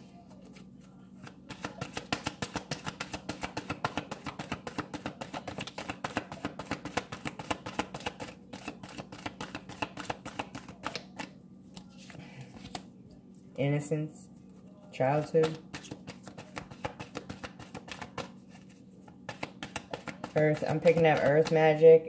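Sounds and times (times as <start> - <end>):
cards being shuffled: 0.4 - 12.9, 15.4 - 21.6.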